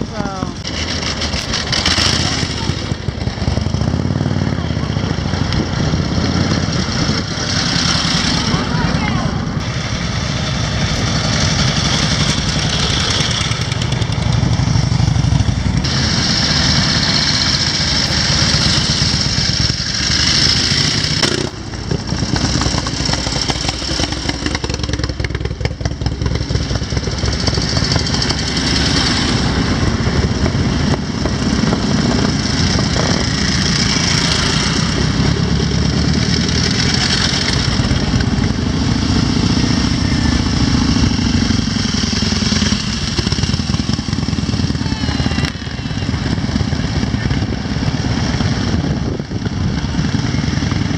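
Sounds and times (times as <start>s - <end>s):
motorcycle engines running: 0.0s - 50.9s.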